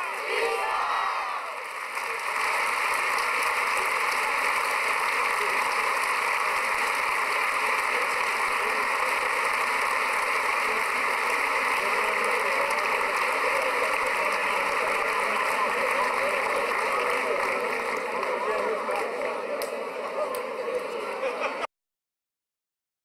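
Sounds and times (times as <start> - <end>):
crowd hubbub: 0.0 - 21.7.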